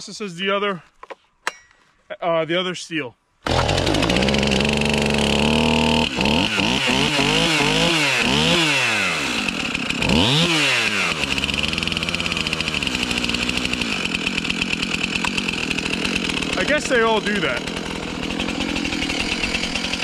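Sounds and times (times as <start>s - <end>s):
chainsaw revving and idling: 3.4s - 20.0s.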